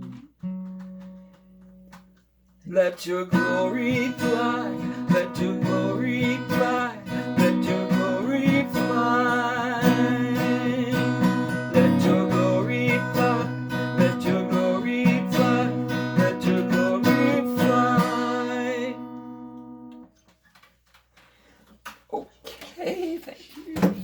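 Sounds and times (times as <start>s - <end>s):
strummed acoustic guitar: 0.0s - 20.1s.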